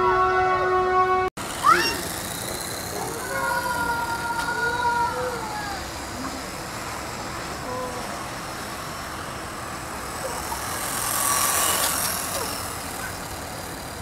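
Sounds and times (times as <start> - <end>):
electric motor whining: 1.4 - 14.0.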